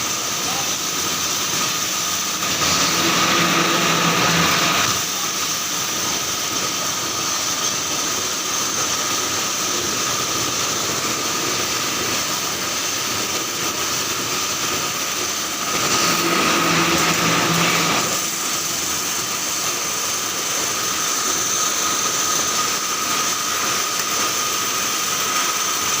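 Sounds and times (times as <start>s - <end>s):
welding machine whining: 0.0s - 26.0s.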